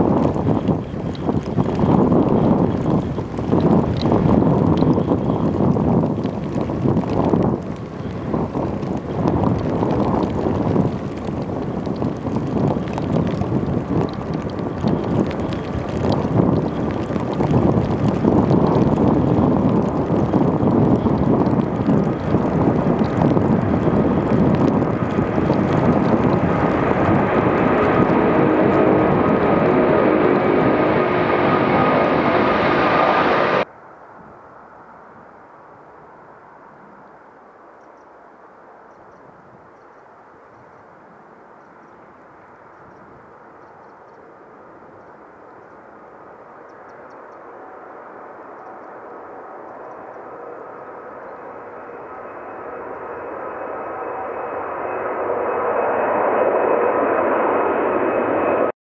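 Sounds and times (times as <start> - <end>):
jet engines roaring at takeoff: 0.0 - 33.7, 42.0 - 58.8.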